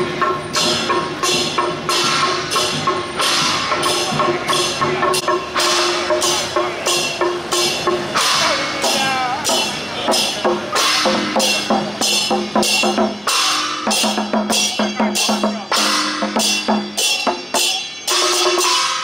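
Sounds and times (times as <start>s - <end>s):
barrel drum struck with sticks: 0.0s - 19.0s
cymbal crashes: 0.0s - 19.0s
gong ringing: 0.0s - 19.0s.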